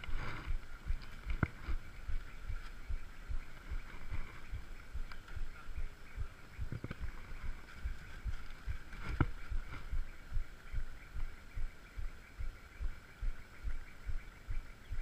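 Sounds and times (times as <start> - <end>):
faint high-pitched hum: 0.0 - 15.0.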